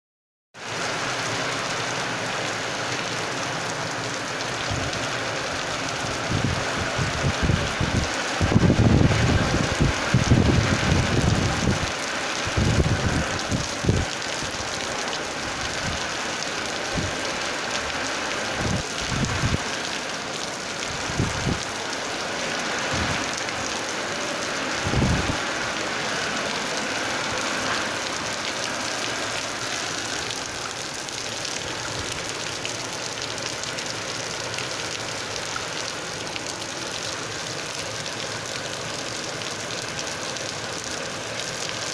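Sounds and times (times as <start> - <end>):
steady rain falling: 0.6 - 41.9.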